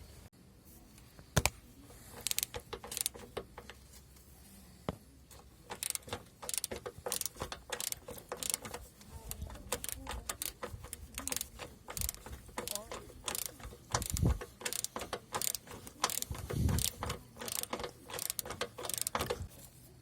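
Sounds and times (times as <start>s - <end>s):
ratchet wrench clicking: 1.9s - 3.8s, 5.3s - 19.5s.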